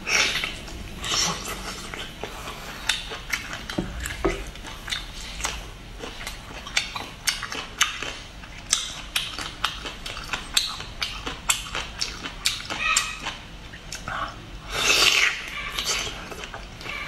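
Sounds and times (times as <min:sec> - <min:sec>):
person chewing with mouth smacks: 0:00.1 - 0:17.0.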